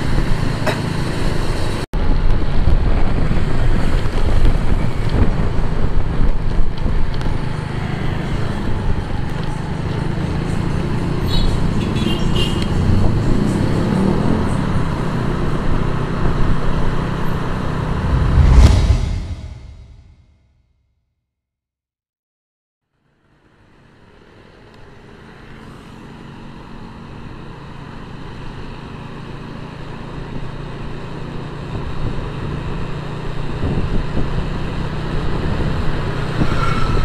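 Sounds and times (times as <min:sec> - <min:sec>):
road and traffic noise: 0:00.0 - 0:20.0, 0:23.0 - 0:37.0.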